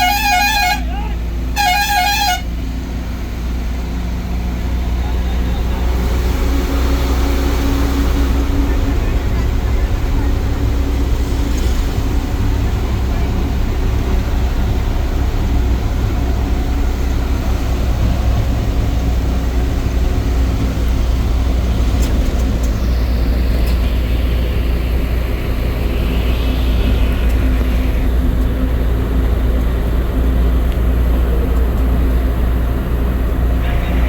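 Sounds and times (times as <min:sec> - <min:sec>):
bus engine rumble: 0:00.0 - 0:34.0
road noise: 0:00.0 - 0:34.0.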